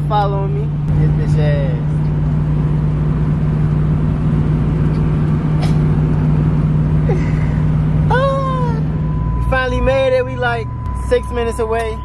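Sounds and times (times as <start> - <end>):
engine drone inside vehicle: 0.0 - 12.0
road and tyre noise: 0.0 - 12.0.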